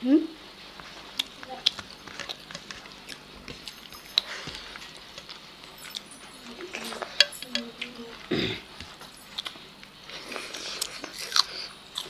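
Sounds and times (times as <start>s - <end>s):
chewing: 0.8s - 12.0s
fingers working rice on plates: 0.8s - 12.0s.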